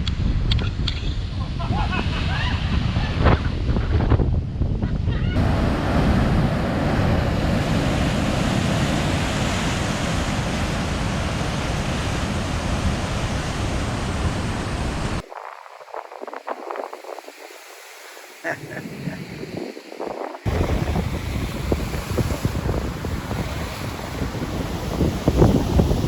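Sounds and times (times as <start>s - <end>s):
wind buffeting microphone: 0.0s - 17.8s, 18.4s - 26.0s
ocean surf rushing: 1.2s - 3.5s, 5.4s - 26.0s.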